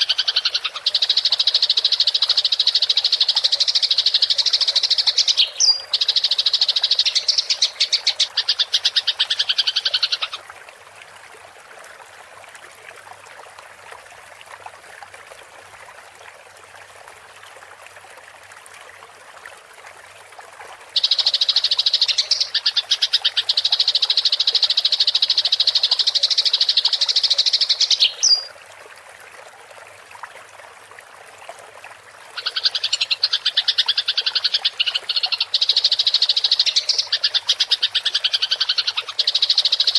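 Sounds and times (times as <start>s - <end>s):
faint running water hiss: 0.0s - 39.9s.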